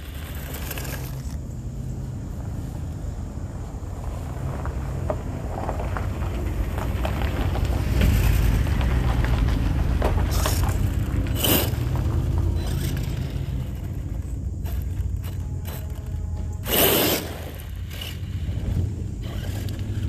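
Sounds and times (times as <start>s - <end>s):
gravel spraying: 0.0s - 1.4s, 3.9s - 20.0s
toy truck tyres crunching gravel: 0.0s - 1.6s, 3.8s - 20.0s
wind rumble on microphone: 2.2s - 16.7s, 17.9s - 20.0s.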